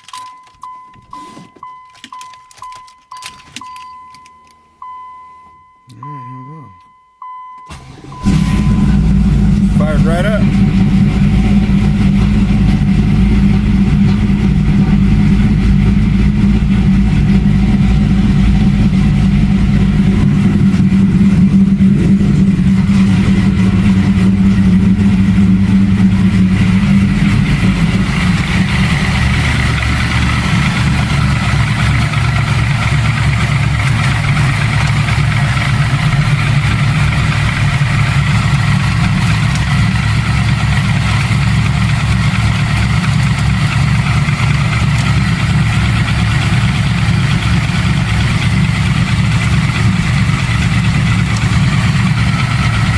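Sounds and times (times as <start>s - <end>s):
car engine idling: 7.7s - 52.9s.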